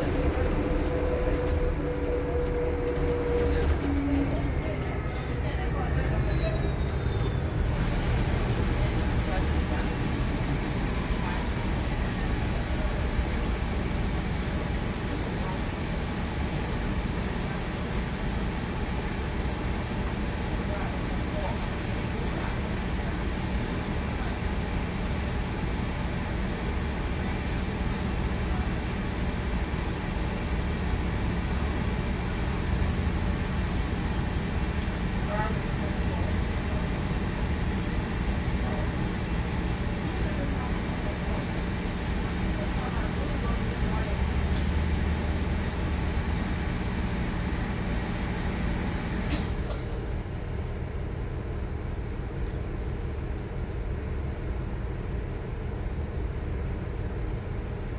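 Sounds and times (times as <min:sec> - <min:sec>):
bus cabin low rumble: 0:00.0 - 0:57.9.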